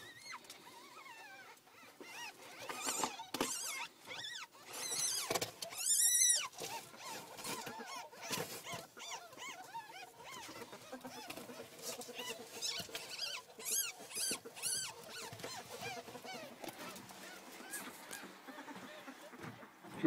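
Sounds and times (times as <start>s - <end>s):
ferrets squeaking: 0.0s - 20.0s.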